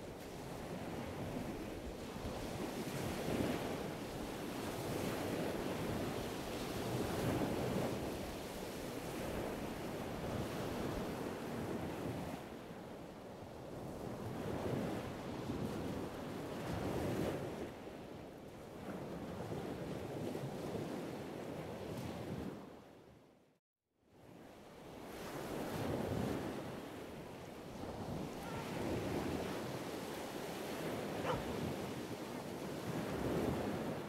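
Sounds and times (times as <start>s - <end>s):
waves washing onto shore: 0.0s - 22.6s, 24.8s - 34.0s.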